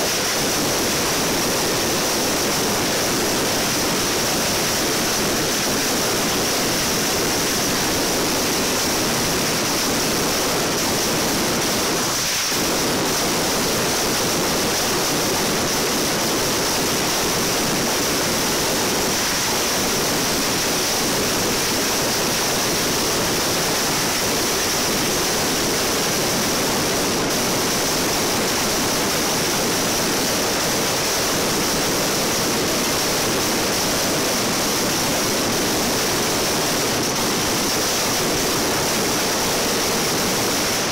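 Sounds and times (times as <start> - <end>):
firecrackers crackling: 0.0 - 40.9.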